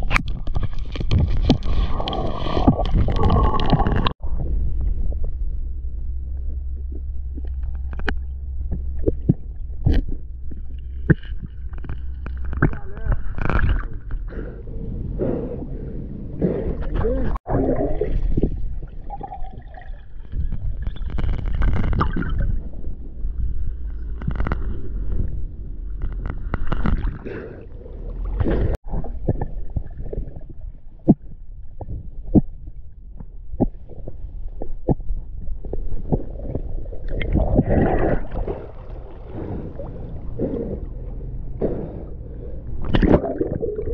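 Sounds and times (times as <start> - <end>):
low rumbling handling noise: 0.0 - 43.9
underwater air bubbling: 0.0 - 43.9.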